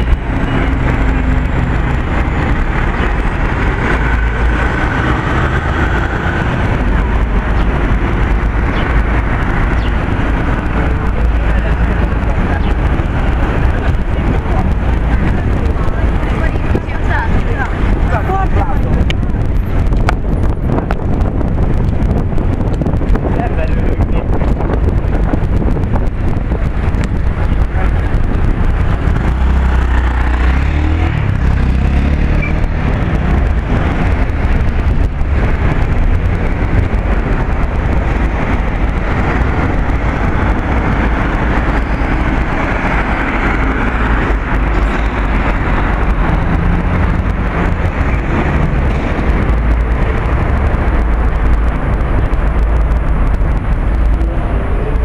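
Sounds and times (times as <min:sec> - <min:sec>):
cars passing close by: 0:00.0 - 0:23.6, 0:24.6 - 0:55.0
wind rumble on microphone: 0:00.0 - 0:55.0.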